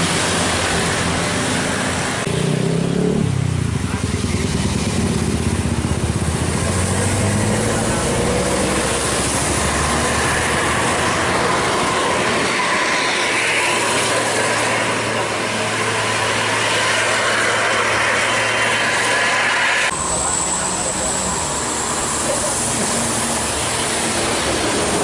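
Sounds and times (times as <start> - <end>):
bus engine running: 0.0 - 25.0
tyres hissing on wet road: 0.0 - 25.0.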